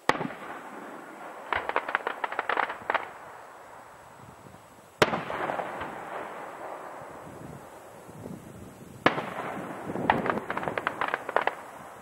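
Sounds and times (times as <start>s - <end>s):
firework sharp cracks: 0.0s - 4.4s, 5.0s - 8.3s, 9.0s - 12.0s.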